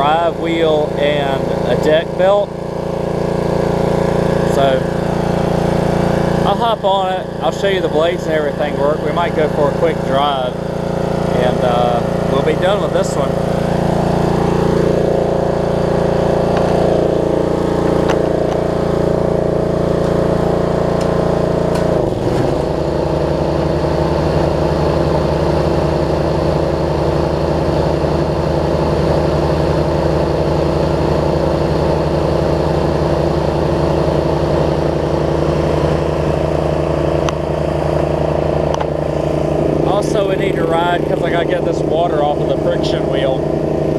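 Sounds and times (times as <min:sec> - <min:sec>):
riding mower engine running: 0:00.0 - 0:43.9.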